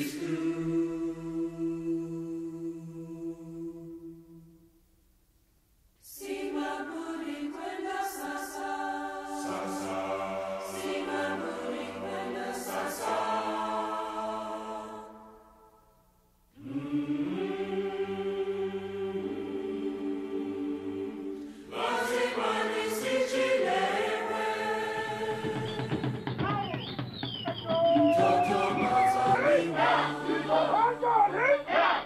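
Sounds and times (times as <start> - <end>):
chorus chanting in harmony: 0.0 - 4.6, 6.0 - 15.8, 16.6 - 26.9, 27.5 - 32.0.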